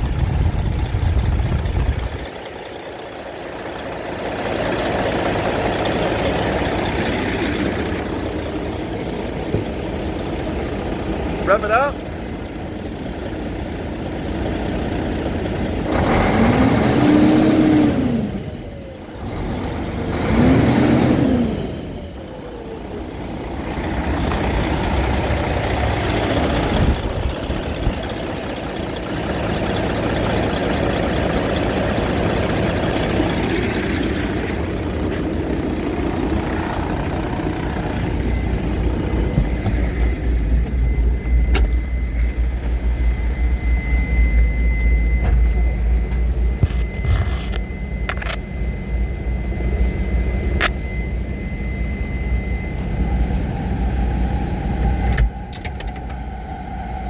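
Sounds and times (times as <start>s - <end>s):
diesel engine revving: 0.0s - 51.7s.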